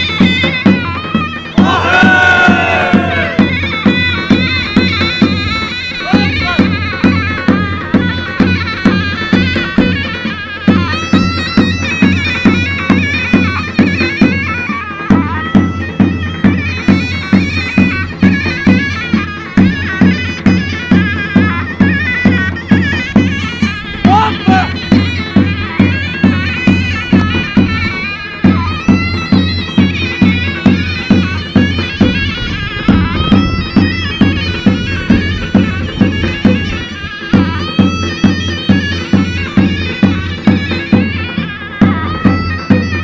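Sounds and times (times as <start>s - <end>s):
shrill reed pipe melody: 0.0s - 43.0s
steady drum beat: 0.0s - 43.0s.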